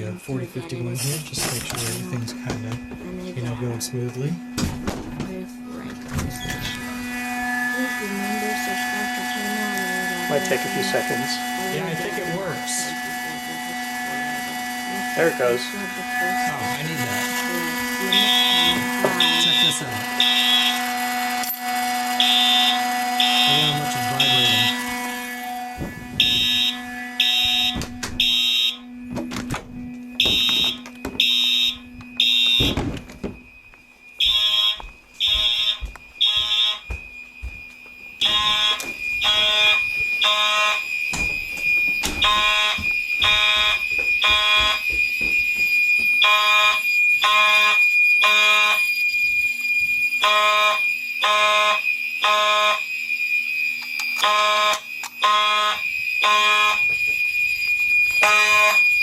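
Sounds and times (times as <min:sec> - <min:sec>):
fire alarm horns blasting: 0:00.0 - 0:59.0
steady high alarm tone: 0:00.0 - 0:59.0.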